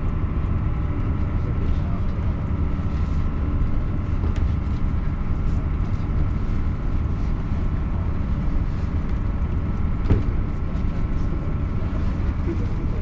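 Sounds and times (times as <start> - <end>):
bus diesel engine running: 0.0 - 13.0
hum of the ride: 0.0 - 13.0.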